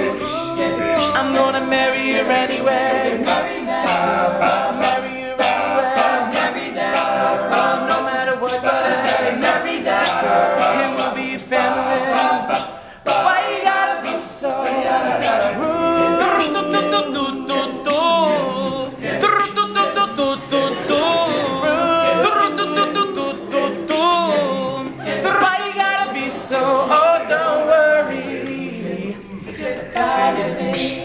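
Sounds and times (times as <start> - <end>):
men singing harmonies: 0.0 - 31.0
vocal percussion beat: 0.0 - 31.0.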